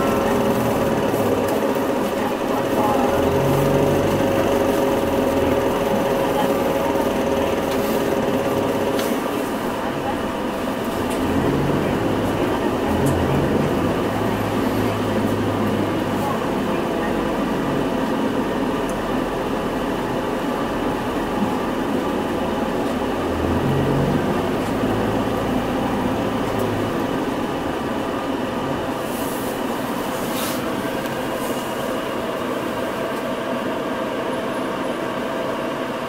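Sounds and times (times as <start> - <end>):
bus engine hum: 0.0 - 36.0.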